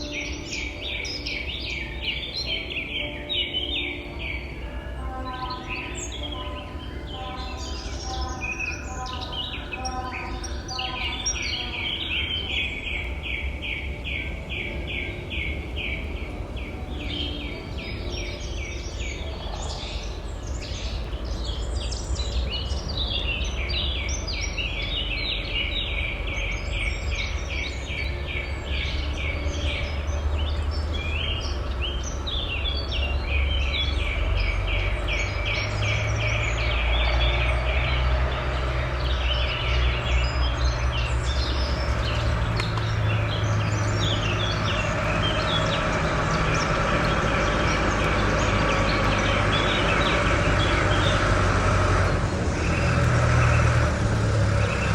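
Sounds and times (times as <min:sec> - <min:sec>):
birds calling: 0:00.0 - 0:54.9.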